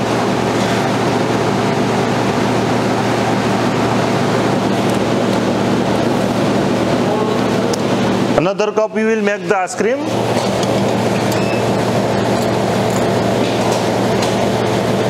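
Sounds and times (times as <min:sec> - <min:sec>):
ice cream machine humming: 0:00.0 - 0:15.0.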